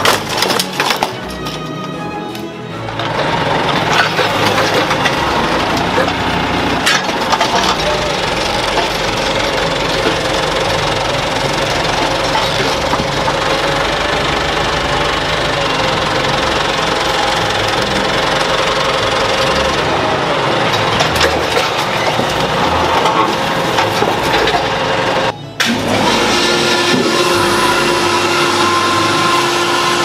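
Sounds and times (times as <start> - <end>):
forklift engine running: 0.0 - 30.0.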